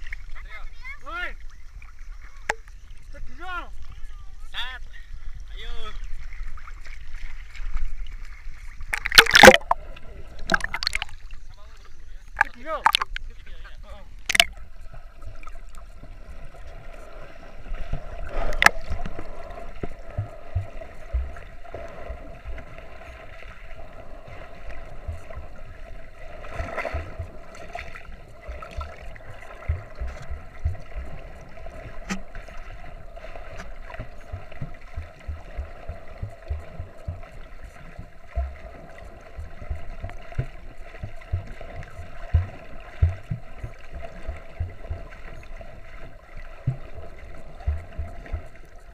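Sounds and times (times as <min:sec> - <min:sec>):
underwater wash of water: 0:06.0 - 0:13.3, 0:14.1 - 0:48.9
low underwater bumps and knocks: 0:06.2 - 0:11.5, 0:12.3 - 0:13.6, 0:14.2 - 0:48.9.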